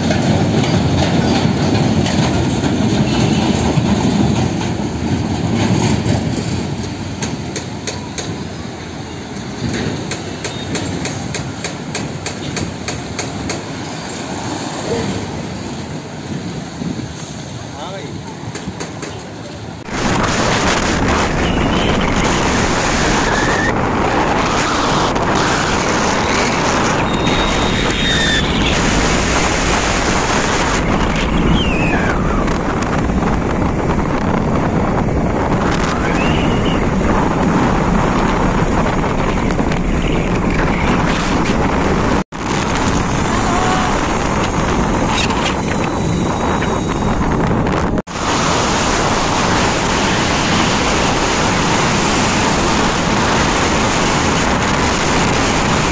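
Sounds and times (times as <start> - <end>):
road noise: 0.0 - 55.9
wind rushing over microphone: 0.0 - 55.9.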